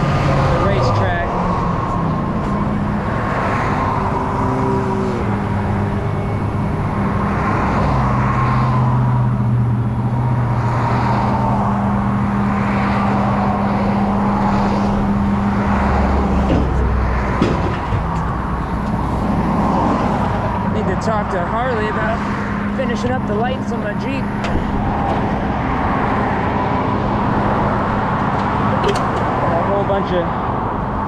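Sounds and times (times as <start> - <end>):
road noise: 0.0 - 31.0
truck engine humming: 0.0 - 31.0.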